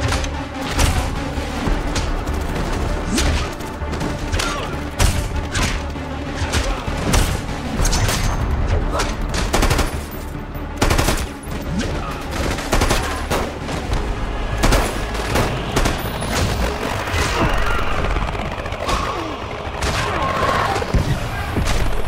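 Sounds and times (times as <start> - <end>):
gunshots and automatic gunfire: 0.0 - 22.0
low rumbling music: 0.0 - 22.0.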